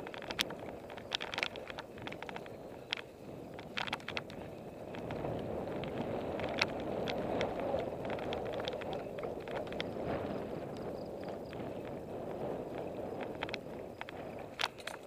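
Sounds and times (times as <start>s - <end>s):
bike clicks and rattles: 0.0s - 15.0s
tyre noise and wind rush: 0.0s - 15.0s.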